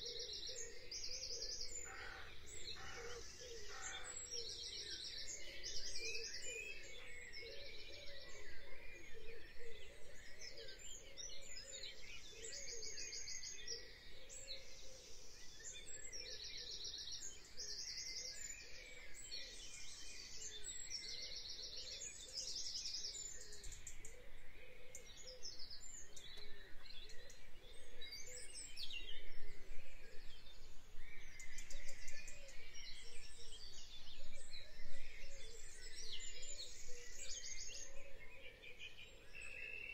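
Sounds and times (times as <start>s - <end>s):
background bird calls: 0.0s - 39.9s.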